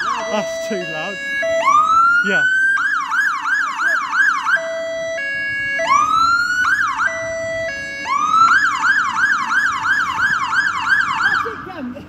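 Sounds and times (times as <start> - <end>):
fire engine electronic siren: 0.0 - 12.0.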